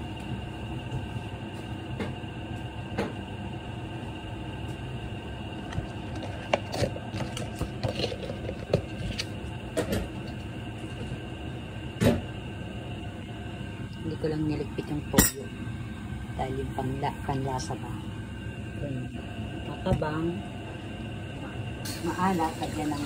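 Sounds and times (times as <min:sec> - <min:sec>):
soup heating with low rushing: 0:00.0 - 0:23.0.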